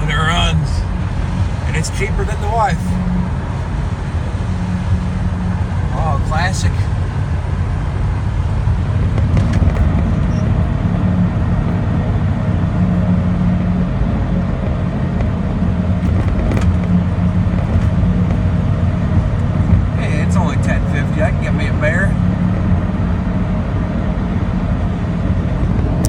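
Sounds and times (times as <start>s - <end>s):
road noise: 0.0s - 26.0s
truck engine hum: 0.0s - 26.0s.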